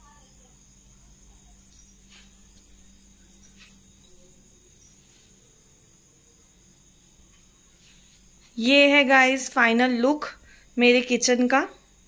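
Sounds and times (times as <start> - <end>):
insects trilling: 0.0 - 12.0
sharp insect chirps: 0.0 - 12.0.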